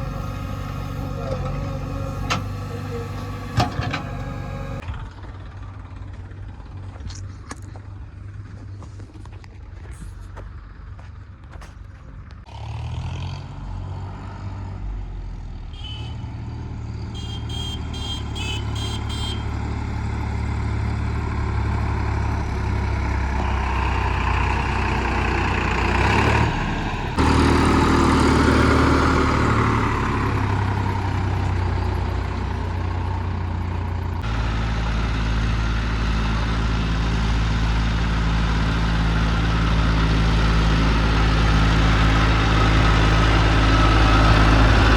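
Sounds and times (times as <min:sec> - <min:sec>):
heavy diesel engines running: 0:00.0 - 0:12.9, 0:16.6 - 0:44.9.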